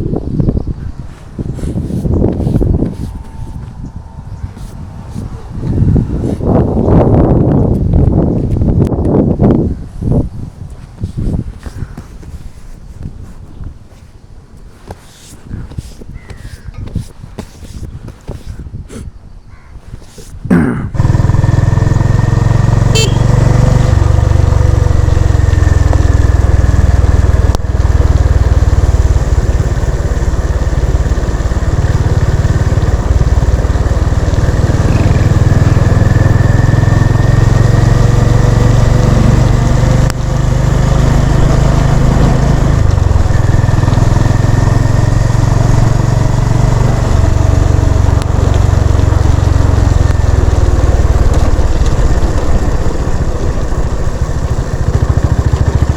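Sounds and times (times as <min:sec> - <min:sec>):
motorcycle engine running: 0:00.0 - 0:12.1, 0:20.9 - 0:55.9.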